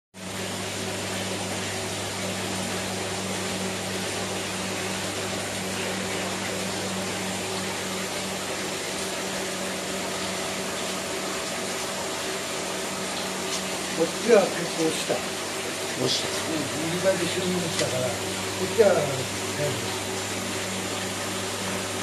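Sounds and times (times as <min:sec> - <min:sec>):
air pump humming: 0:00.2 - 0:22.0.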